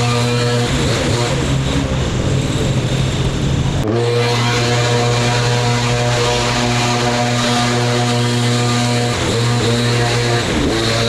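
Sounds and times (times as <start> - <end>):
different engine sound: 0.0 - 11.0
small engine drone: 0.0 - 11.0.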